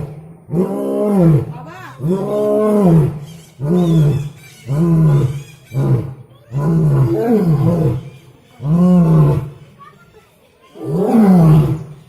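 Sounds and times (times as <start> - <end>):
lion roaring: 0.0 - 9.6, 10.8 - 12.0.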